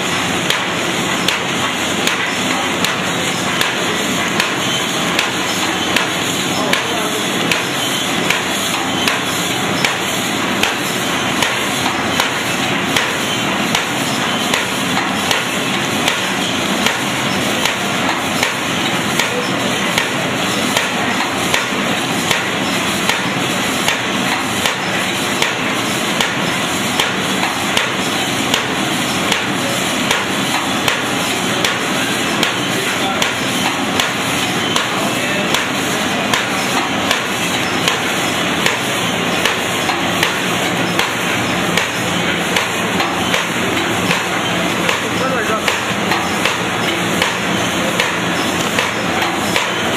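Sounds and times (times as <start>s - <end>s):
machine clattering: 0.0s - 49.9s
sharp machine knock: 0.0s - 49.9s.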